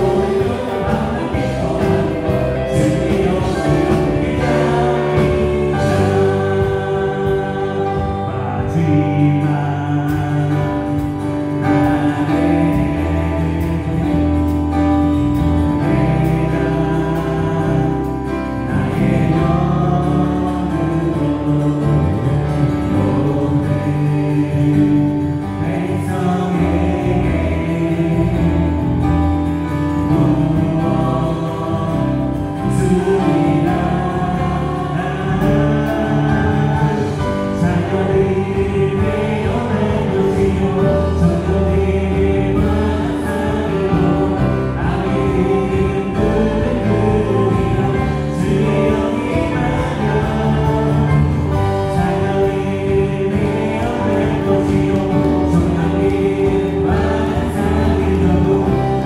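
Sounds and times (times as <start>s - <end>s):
group of voices singing: 0.0s - 59.0s
worship band playing: 0.0s - 59.0s.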